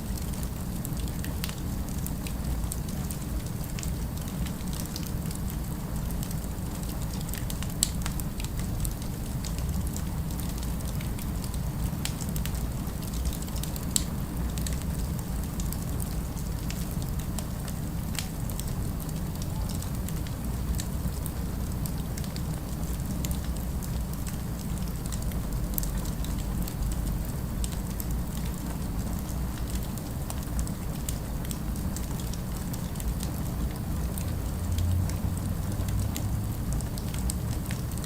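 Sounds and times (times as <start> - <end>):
log fire crackling: 0.0 - 38.0.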